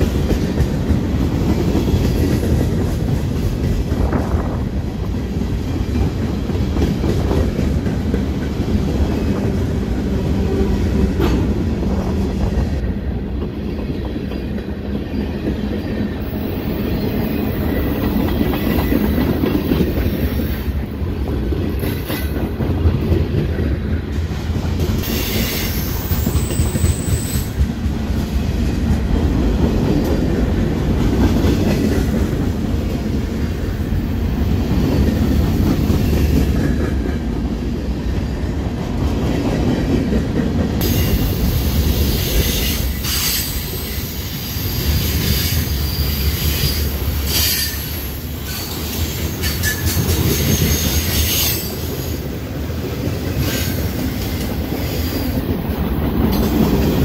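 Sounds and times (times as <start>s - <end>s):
clickety-clack over rail joints: 0.0s - 44.2s, 44.8s - 57.0s
train wheels rumbling on rail: 0.0s - 57.0s.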